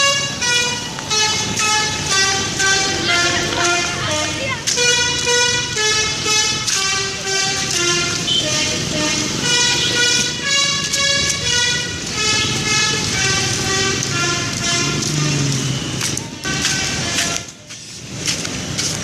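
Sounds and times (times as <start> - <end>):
bus horn playing a tune: 0.0 - 15.8, 16.4 - 17.5.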